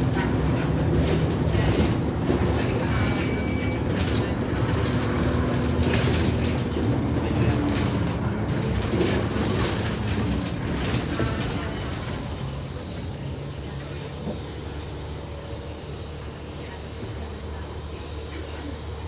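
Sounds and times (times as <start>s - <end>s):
bus engine and road rumble: 0.0s - 19.0s
body rattles and clicks: 0.2s - 17.0s.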